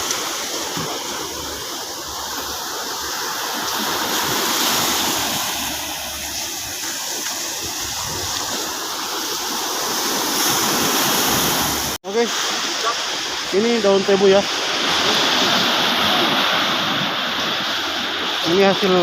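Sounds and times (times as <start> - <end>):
sea surf washing ashore: 0.0 - 19.0.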